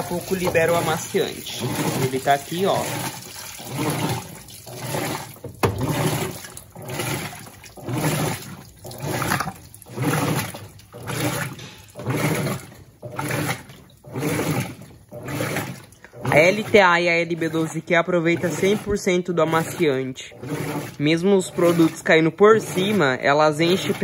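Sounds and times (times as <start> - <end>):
washing machine agitating water: 0.0 - 24.0.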